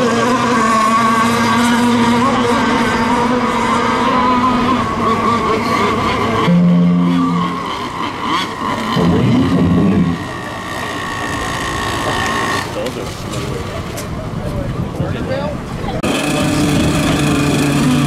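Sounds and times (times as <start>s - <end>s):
racing boat engines at speed: 0.0s - 18.0s.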